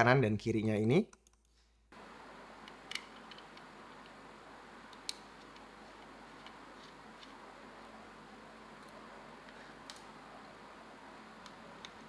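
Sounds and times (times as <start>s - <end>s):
steady hiss: 1.9s - 12.0s.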